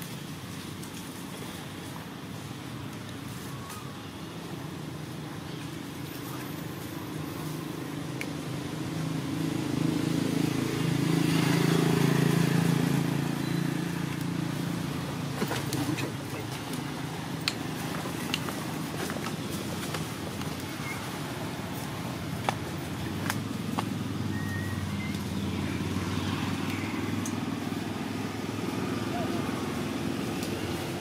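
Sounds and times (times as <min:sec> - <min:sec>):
passing vehicle engine hum: 0:05.9 - 0:31.0.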